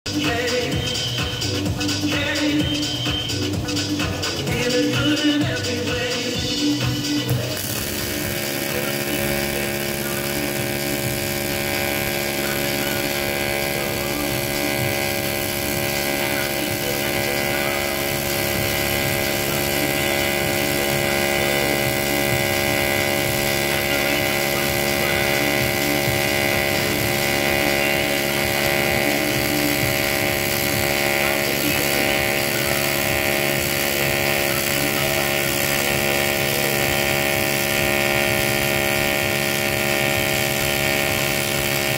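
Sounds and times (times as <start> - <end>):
welding arc buzzing: 0.0 - 41.9.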